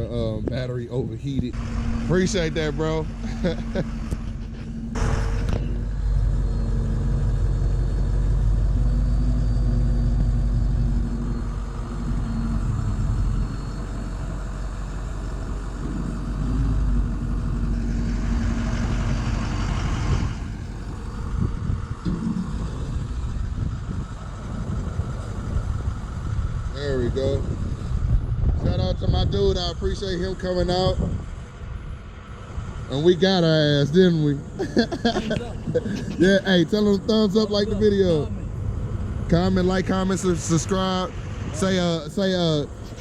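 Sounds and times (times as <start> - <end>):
vehicle engine rumbling: 0.0 - 43.0.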